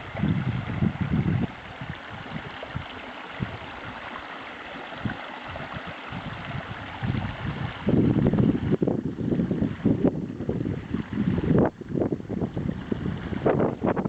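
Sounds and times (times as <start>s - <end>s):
wind gusting on microphone: 0.0s - 4.0s, 4.9s - 14.0s
river water flowing: 0.0s - 14.0s.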